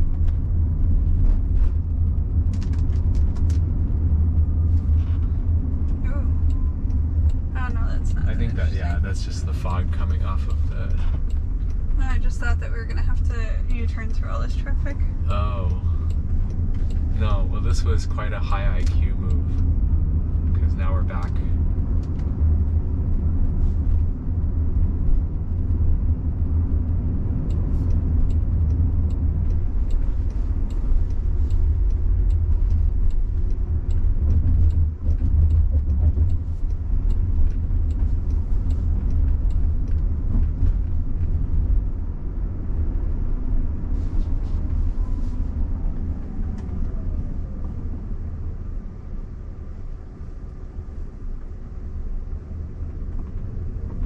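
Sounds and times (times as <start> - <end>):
road and tyre rumble: 0.0 - 54.0.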